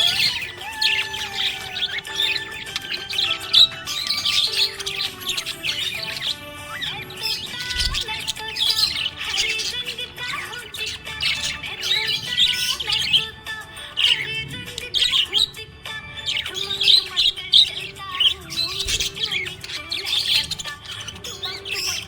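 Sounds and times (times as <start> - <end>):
background music: 0.0 - 22.0
budgerigars chirping: 0.0 - 22.0.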